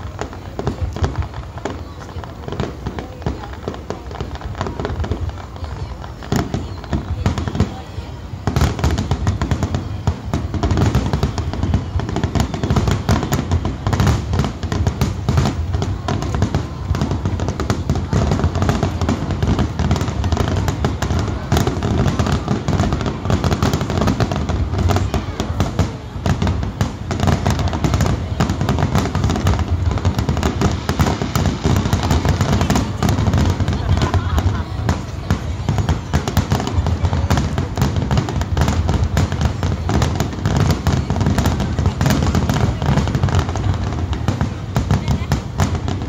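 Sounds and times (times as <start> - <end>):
fireworks booming and crackling: 0.0 - 46.0.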